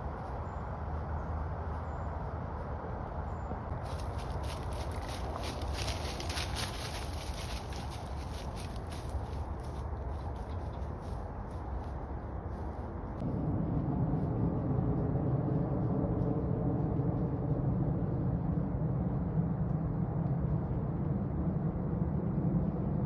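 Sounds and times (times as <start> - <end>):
faint hum: 0.0 - 23.0
traffic rumble: 0.0 - 23.0.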